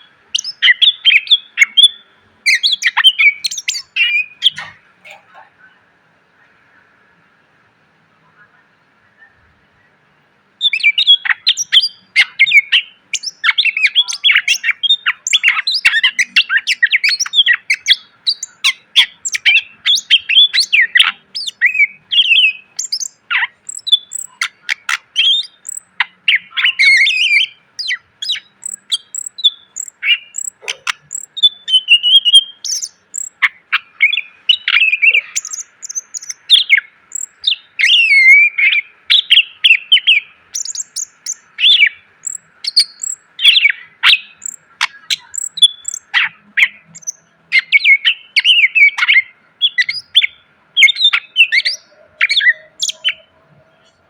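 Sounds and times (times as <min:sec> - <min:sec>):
bird singing chirps and trills: 0:00.0 - 0:05.2, 0:10.6 - 0:54.0.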